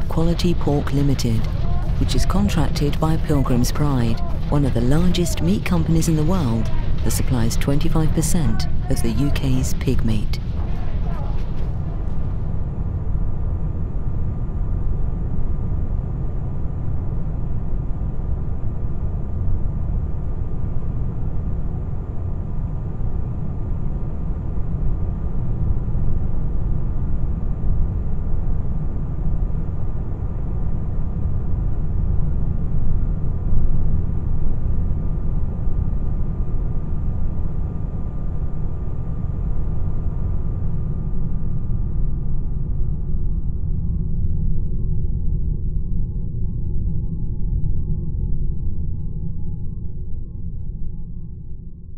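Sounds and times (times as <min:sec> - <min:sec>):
faint high hum: 0:00.0 - 0:51.9
low rumble: 0:00.0 - 0:51.9.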